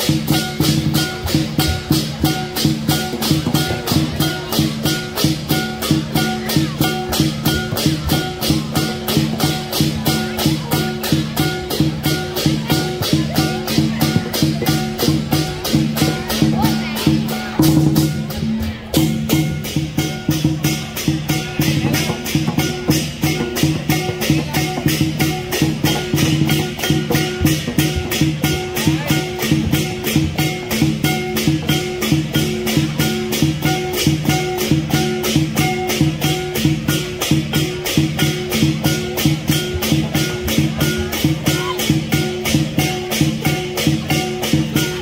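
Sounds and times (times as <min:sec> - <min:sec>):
cymbal clashes: 0:00.0 - 0:45.0
drum beat: 0:00.0 - 0:45.0.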